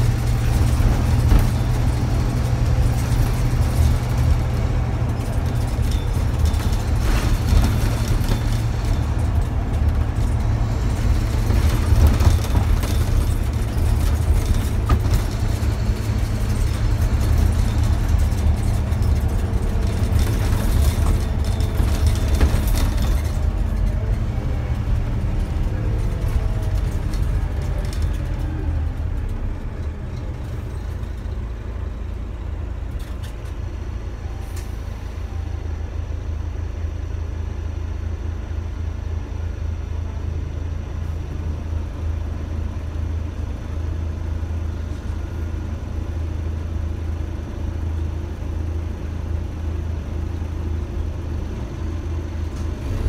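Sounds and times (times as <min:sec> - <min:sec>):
diesel bus engine droning: 0:00.0 - 0:53.0.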